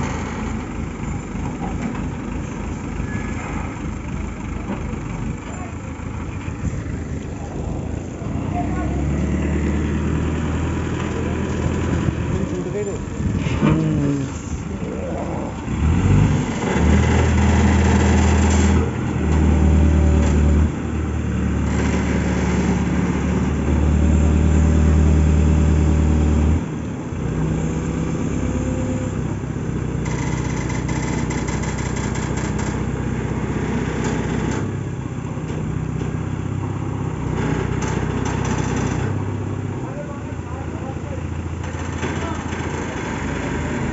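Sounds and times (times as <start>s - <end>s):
crane diesel engine running: 0.0s - 43.9s.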